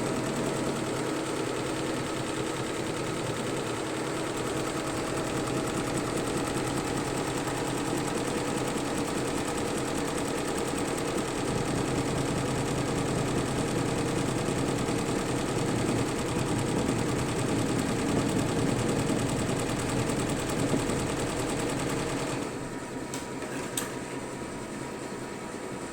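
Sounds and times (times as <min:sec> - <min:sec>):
embroidery machine stitching: 0:00.0 - 0:22.6.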